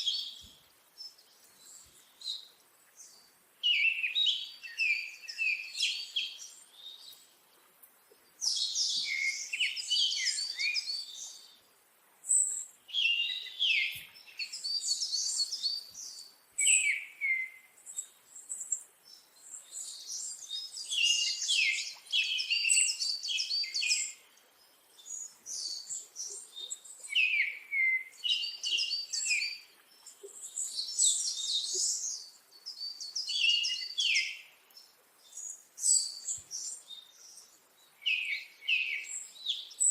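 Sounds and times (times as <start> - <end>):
songbird twittering: 0.0 - 7.2, 8.3 - 11.6, 12.2 - 39.9.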